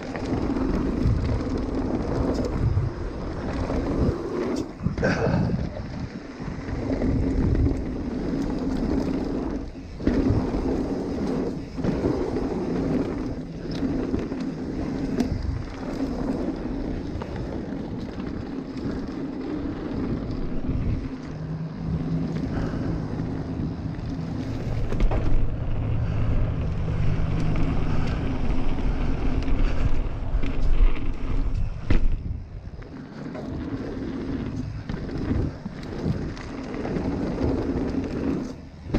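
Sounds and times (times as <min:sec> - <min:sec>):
bike knocks and rattles: 0:00.0 - 0:38.9
bike tyres rolling over dirt: 0:00.0 - 0:38.9
wind noise on microphone: 0:00.0 - 0:38.9.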